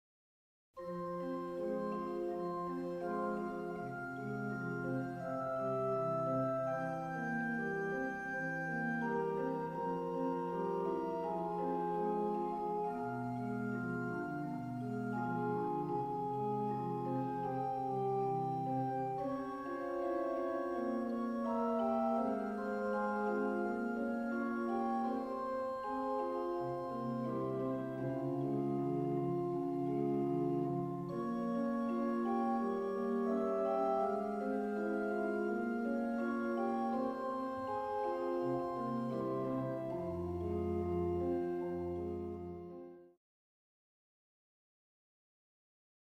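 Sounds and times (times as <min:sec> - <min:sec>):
organ playing sustained chords: 0:00.8 - 0:43.0.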